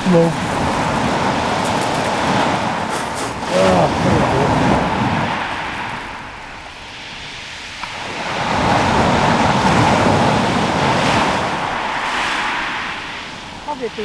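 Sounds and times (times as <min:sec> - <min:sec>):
surf on shingle beach: 0:00.0 - 0:14.0.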